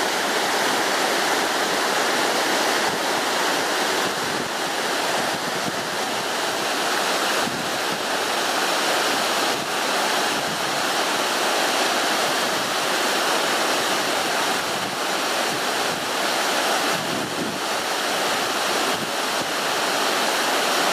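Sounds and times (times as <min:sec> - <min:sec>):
waterfall roaring over boulders: 0:00.0 - 0:20.9.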